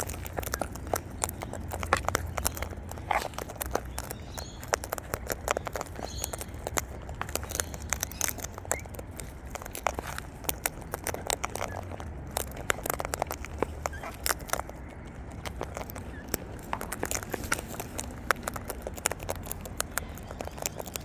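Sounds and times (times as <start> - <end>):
birds pecking at seed: 0.0 - 21.0.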